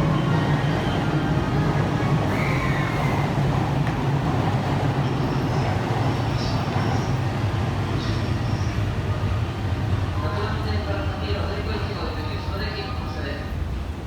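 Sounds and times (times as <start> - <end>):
busy station noise: 0.0 - 14.0
electric trains humming: 0.0 - 14.0.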